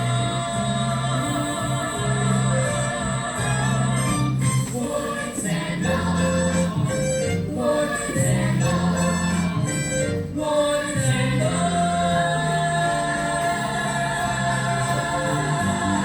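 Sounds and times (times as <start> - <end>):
backing track: 0.0 - 16.0
voices singing: 0.0 - 16.0.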